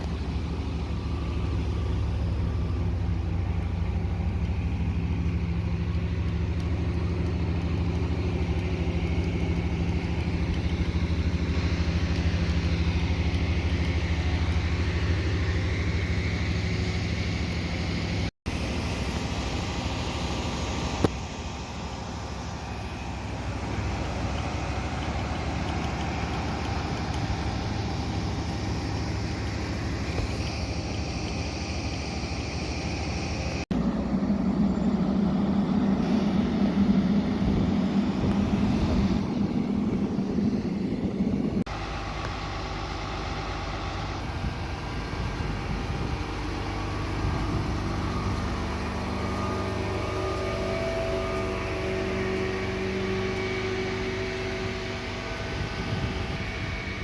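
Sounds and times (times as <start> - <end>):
fire truck engines running: 0.0 - 57.0.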